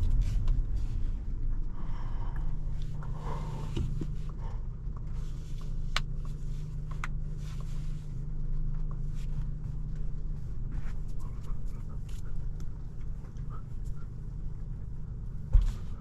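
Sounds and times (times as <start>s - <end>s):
engine and road drone: 0.0s - 16.0s.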